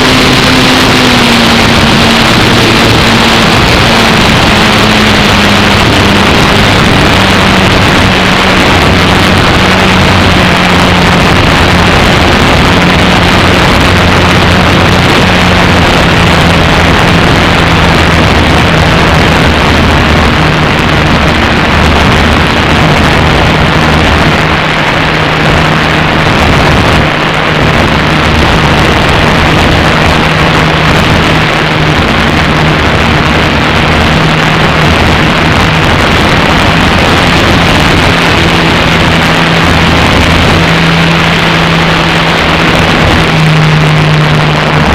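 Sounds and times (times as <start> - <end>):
model plane propeller droning: 0.0 - 44.9
wind rush on microphone: 0.0 - 44.9.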